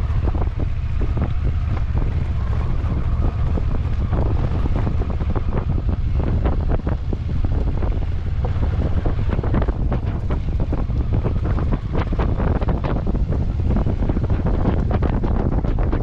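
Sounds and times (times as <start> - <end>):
vehicle engine low rumble: 0.0 - 16.0
wind buffeting microphone: 0.0 - 16.0.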